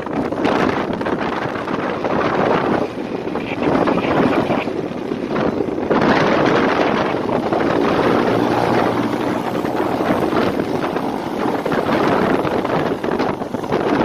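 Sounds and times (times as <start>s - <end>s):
motorcycle running: 0.0s - 14.0s
wind buffeting microphone: 0.0s - 14.0s.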